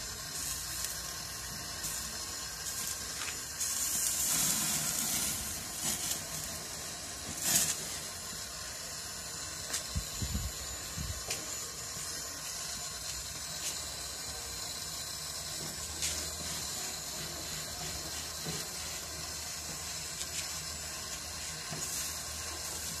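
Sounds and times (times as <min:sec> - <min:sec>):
meat sizzling on grill: 0:00.0 - 0:23.0.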